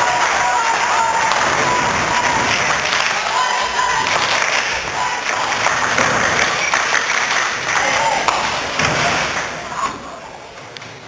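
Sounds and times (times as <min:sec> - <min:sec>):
crowd clapping and cheering: 0:00.0 - 0:11.0.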